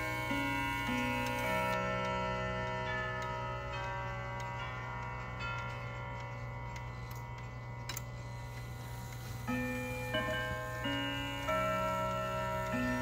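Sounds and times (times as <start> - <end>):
wall clock chimes ringing: 0.0 - 13.0.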